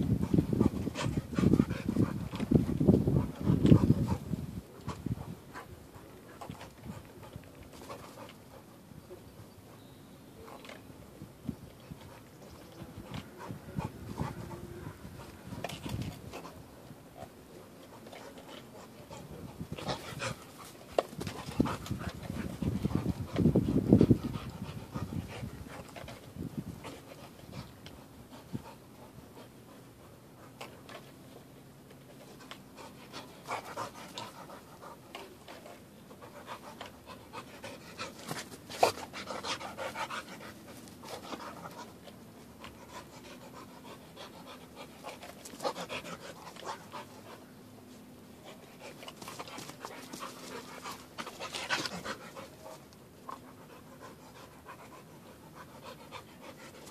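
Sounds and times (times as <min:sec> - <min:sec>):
dog panting: 0:00.0 - 0:08.8, 0:11.8 - 0:31.3, 0:32.1 - 0:47.5, 0:48.3 - 0:56.9.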